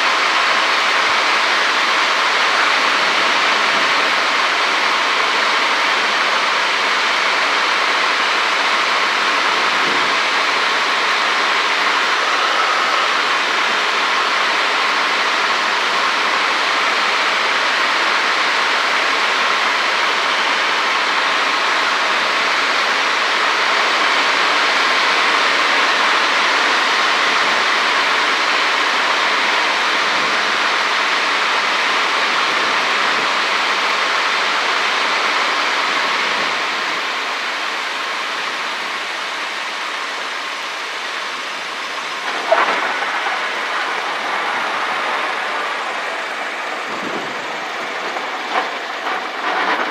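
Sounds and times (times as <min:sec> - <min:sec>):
light aircraft engine and propeller: 0:00.0 - 0:49.9.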